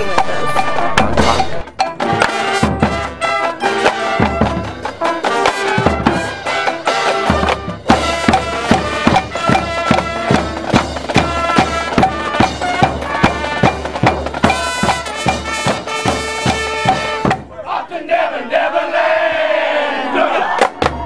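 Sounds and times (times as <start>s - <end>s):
drumbeat: 0.0s - 17.8s, 20.6s - 21.0s
brass notes: 0.0s - 19.3s.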